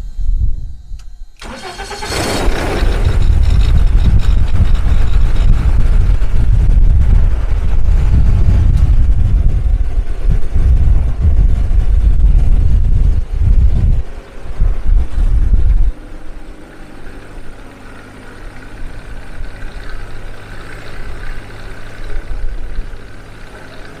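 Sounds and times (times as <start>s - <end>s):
aircraft engine rumbling: 0.0s - 24.0s.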